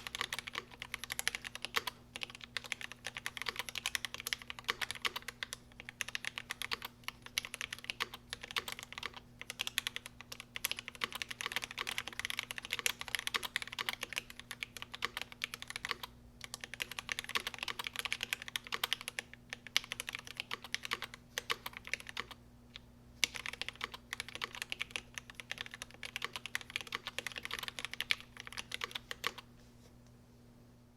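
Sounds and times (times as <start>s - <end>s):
fast typing on mechanical keyboard: 0.0s - 22.4s, 23.2s - 29.4s.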